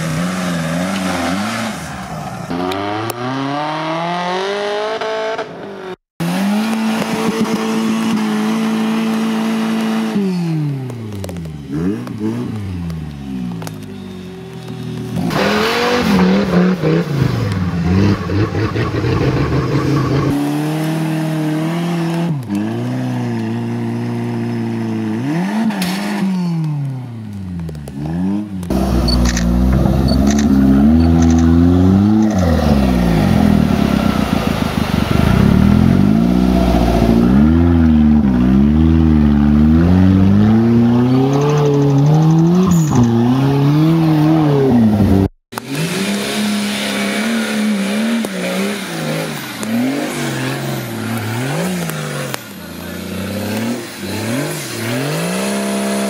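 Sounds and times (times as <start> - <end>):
off-road engines revving hard: 0.0 - 26.9, 27.8 - 56.0.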